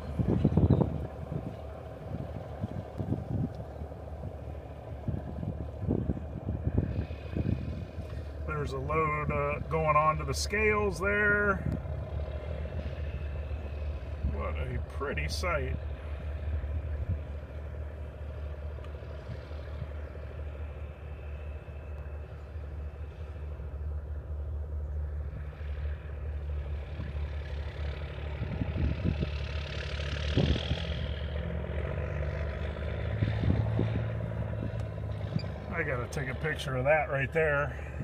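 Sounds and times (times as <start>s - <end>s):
engine humming: 0.0s - 38.0s.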